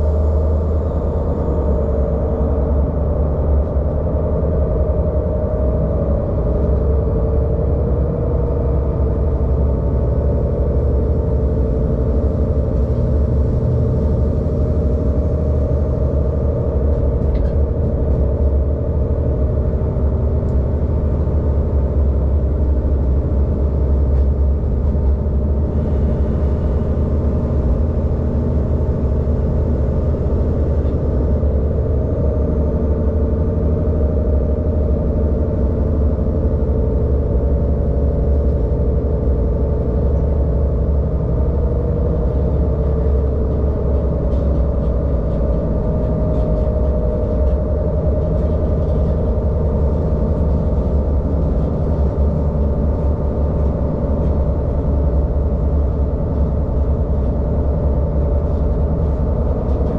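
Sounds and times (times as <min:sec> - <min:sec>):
train engine rumble: 0:00.0 - 0:59.9.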